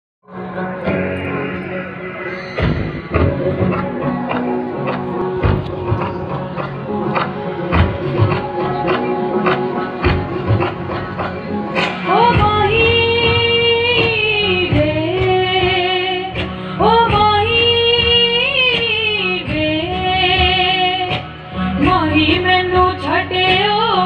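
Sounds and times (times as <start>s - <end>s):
backing track through speakers: 0.3s - 24.0s.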